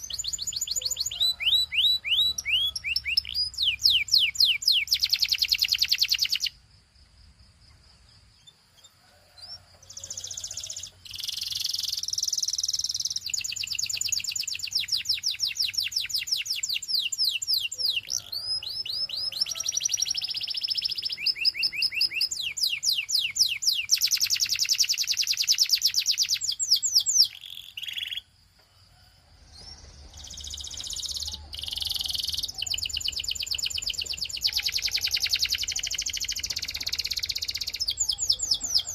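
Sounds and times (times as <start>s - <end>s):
canary singing trills: 0.0s - 6.6s, 8.3s - 28.4s, 29.5s - 38.9s.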